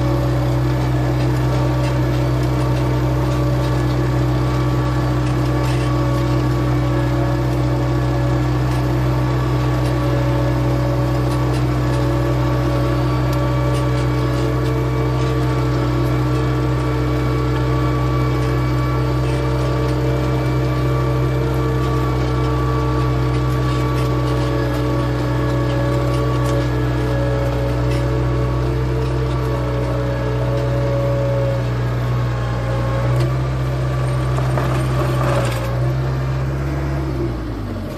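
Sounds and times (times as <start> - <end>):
tractor engine droning: 0.0 - 37.9.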